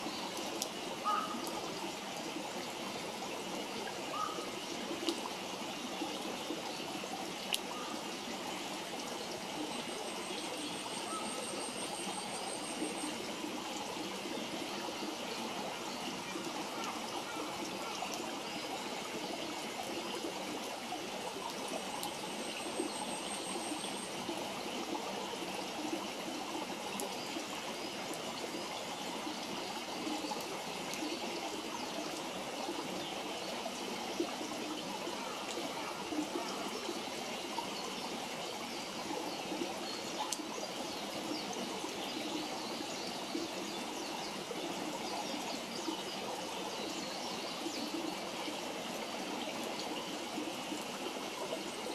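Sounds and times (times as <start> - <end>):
flowing water rushing: 0.0 - 51.9.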